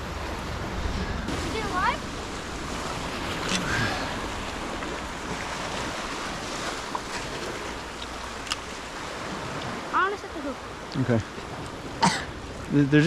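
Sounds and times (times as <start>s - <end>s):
ocean surf washing on shore: 0.0s - 13.0s
wind: 0.0s - 13.0s.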